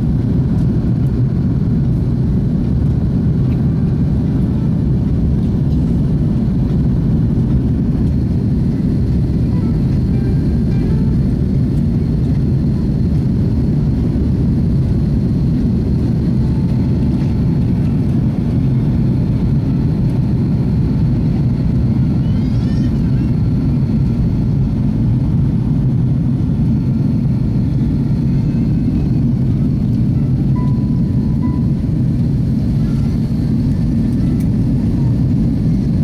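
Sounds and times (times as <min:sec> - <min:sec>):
airliner cabin drone: 0:00.0 - 0:36.0.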